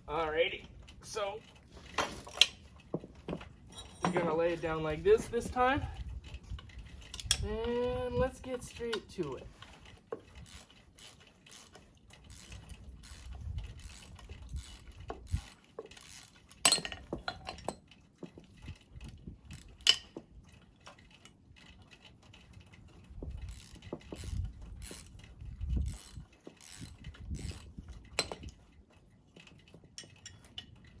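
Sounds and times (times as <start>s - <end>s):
hand tools and metal parts clinking: 0.0s - 31.0s.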